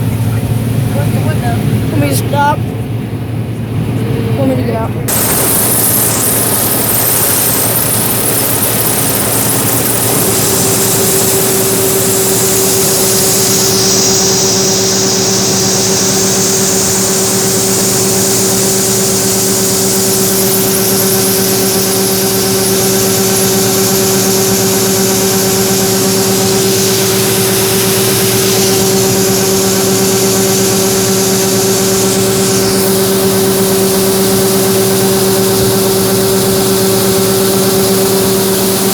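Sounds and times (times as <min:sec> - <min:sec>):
heavy engine running: 0:00.0 - 0:38.9
steady whine: 0:00.0 - 0:38.9.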